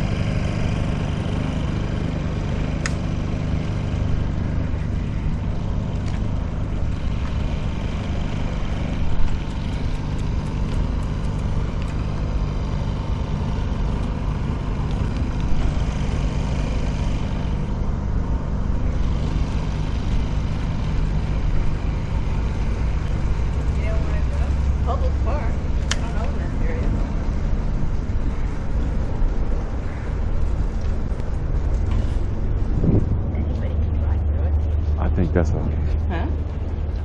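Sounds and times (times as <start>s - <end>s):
low engine hum: 0.0s - 37.0s
road noise: 0.0s - 37.0s.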